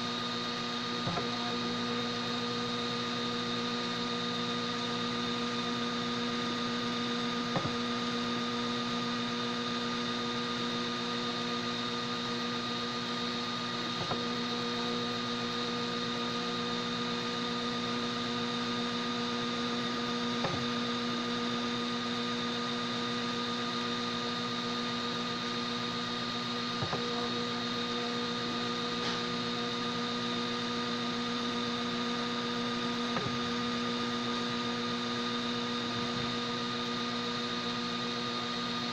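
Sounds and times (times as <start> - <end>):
three d printer humming: 0.0 - 9.6, 12.5 - 38.9.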